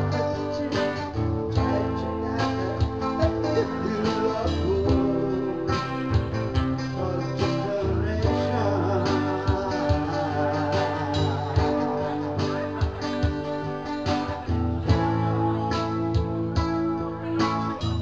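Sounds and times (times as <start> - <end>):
bass and beat: 0.0 - 18.0
strummed acoustic guitar: 0.0 - 18.0.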